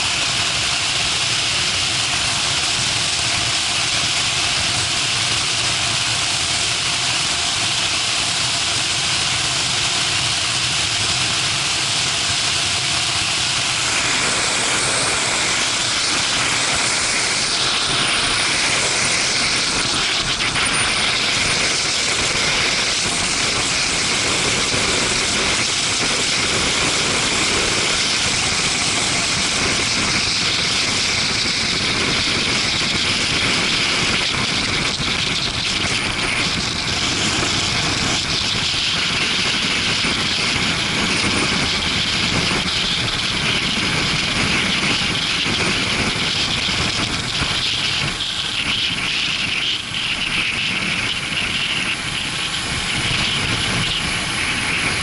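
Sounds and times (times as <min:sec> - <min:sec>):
motorcycle engine running: 0:00.0 - 0:55.0
wind rushing over microphone: 0:09.2 - 0:55.0.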